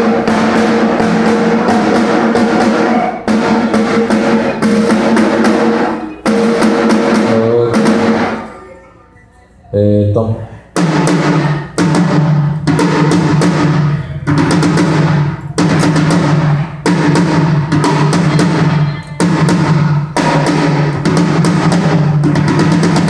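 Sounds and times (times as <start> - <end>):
tom drum hits: 0.0 - 8.5, 10.8 - 23.0.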